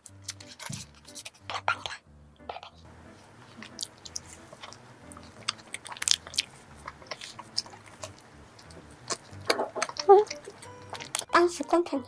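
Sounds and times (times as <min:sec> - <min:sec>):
biting and chewing: 0:00.0 - 0:11.3.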